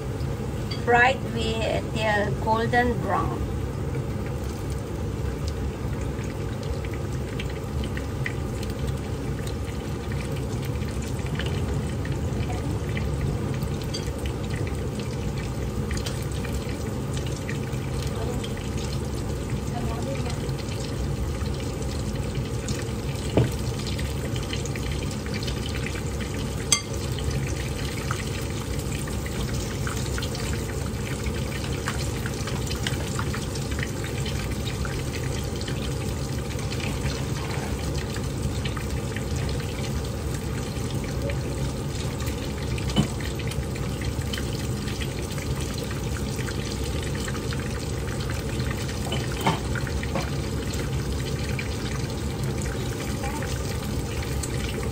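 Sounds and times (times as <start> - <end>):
food sizzling in hot oil: 0.0 - 54.9.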